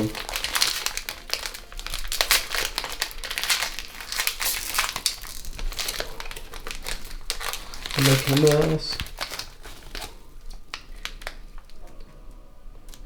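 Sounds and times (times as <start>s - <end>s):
wrapper being torn open: 0.0s - 12.1s
plastic wrapper crinkling: 0.0s - 13.0s.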